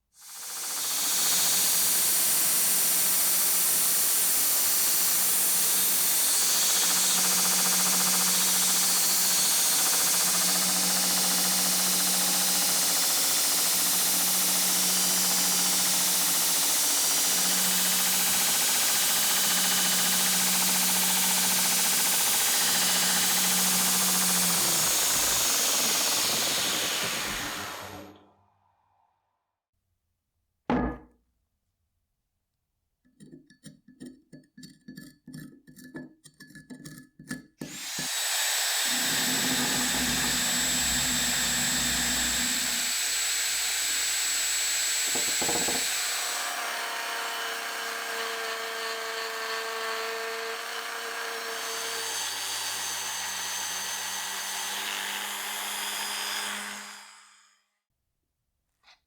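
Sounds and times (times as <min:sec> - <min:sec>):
electric power tool running: 0:00.2 - 0:28.4, 0:37.6 - 0:57.6.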